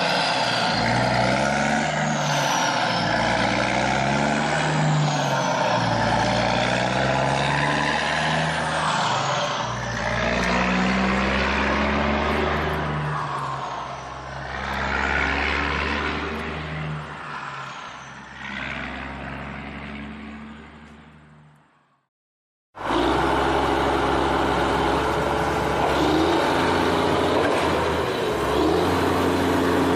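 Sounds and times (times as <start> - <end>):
heavy diesel engine revving: 0.0 - 17.1, 22.8 - 29.9.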